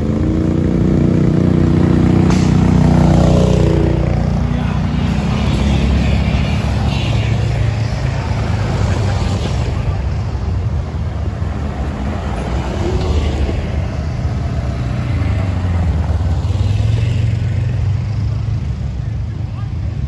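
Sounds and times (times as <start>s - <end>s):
utv and atv engines droning: 0.0s - 20.0s.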